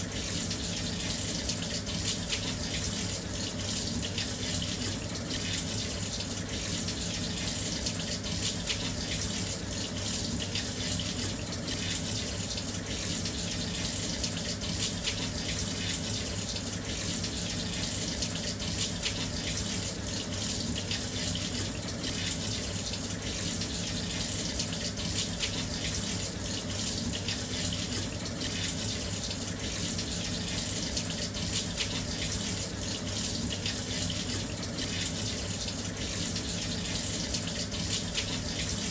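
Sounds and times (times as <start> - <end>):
washing machine filling with water: 0.0 - 38.9.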